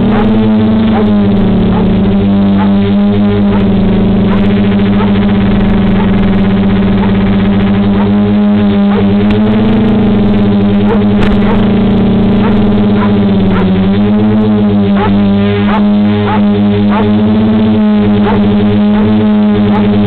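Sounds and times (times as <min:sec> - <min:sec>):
quadcopter motors droning: 0:00.0 - 0:20.0.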